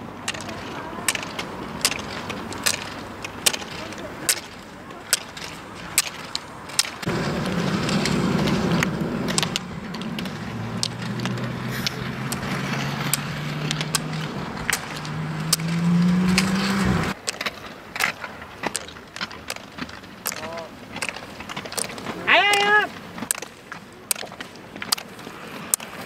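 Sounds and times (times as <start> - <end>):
roller skis rolling on asphalt: 0.0 - 26.0
ski poles clacking on tarmac: 0.0 - 26.0.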